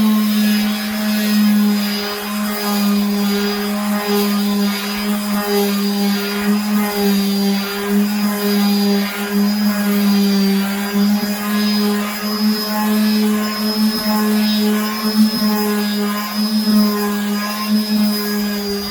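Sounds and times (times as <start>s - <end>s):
electric sander on wood: 0.0s - 18.9s.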